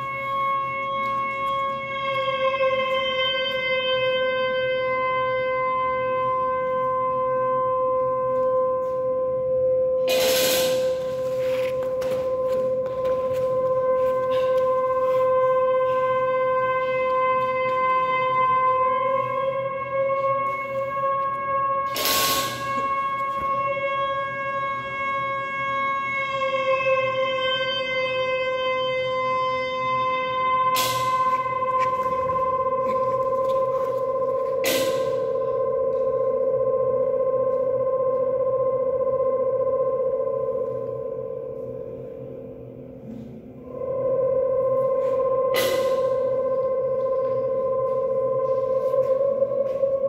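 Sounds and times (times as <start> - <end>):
long steady musical note: 0.0 - 50.0.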